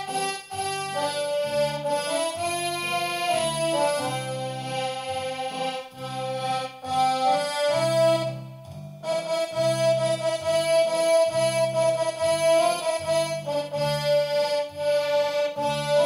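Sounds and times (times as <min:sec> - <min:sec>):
accordion playing melody: 0:00.0 - 0:16.0.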